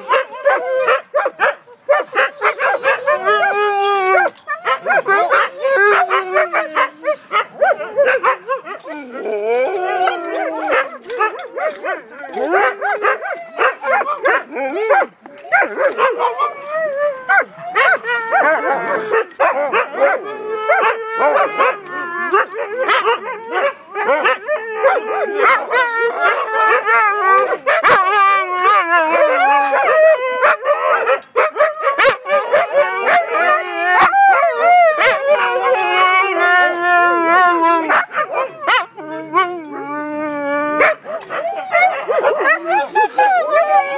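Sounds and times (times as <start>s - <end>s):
dog howling: 0.0s - 43.9s
dogs barking and yipping: 0.0s - 43.9s.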